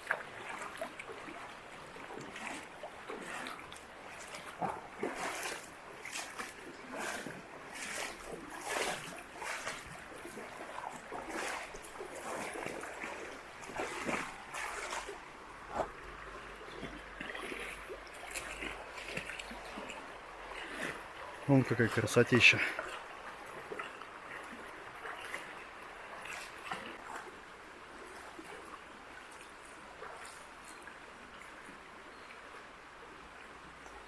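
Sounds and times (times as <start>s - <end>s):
footsteps on wet stones and water: 0.0s - 31.8s
river running over stones: 0.0s - 34.0s.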